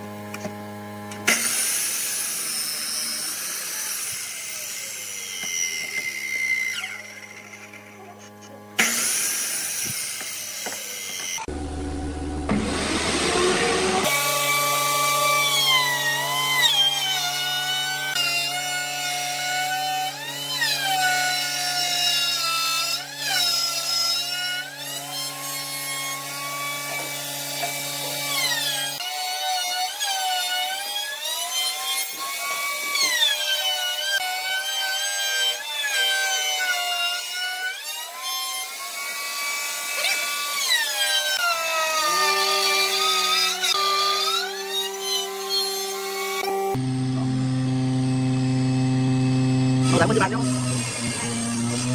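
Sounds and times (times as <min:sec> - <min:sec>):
wood router motor whine: 0:00.0 - 0:51.9.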